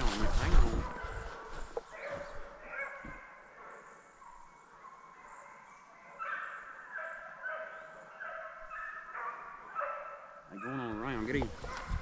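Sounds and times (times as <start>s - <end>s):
hounds baying: 0.1s - 12.0s.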